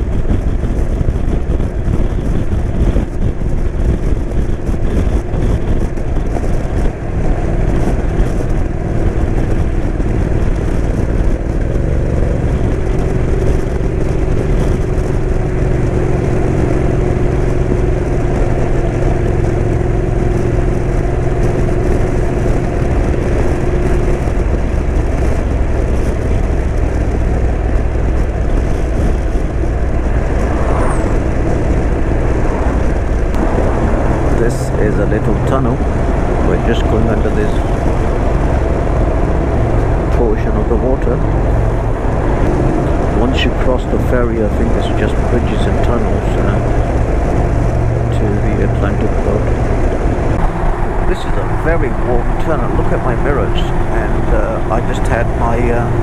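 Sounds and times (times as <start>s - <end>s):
motorcycle engine drone: 0.0s - 56.0s
wind rush over microphone: 0.0s - 56.0s.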